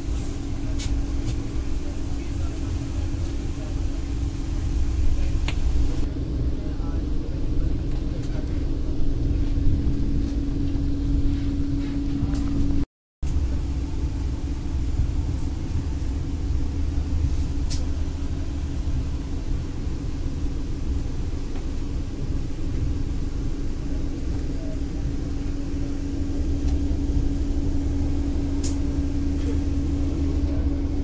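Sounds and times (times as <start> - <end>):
constant hum: 0.0 - 31.0
train rumbling: 0.0 - 31.0.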